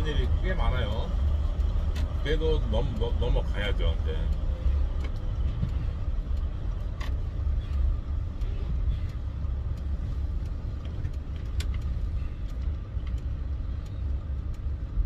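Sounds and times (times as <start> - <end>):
vehicle engine and road noise: 0.0 - 15.0
faint clicks: 0.3 - 15.0.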